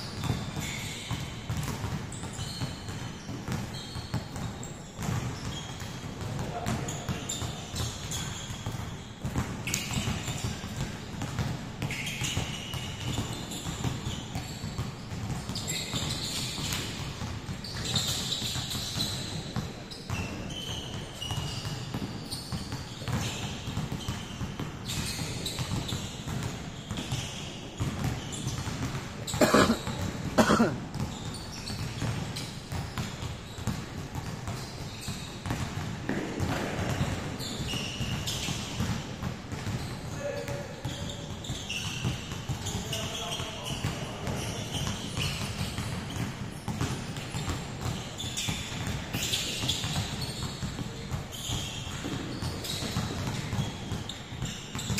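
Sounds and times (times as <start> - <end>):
basketballs bouncing on gym floor: 0.0 - 54.9
sneakers squeaking: 0.0 - 54.9.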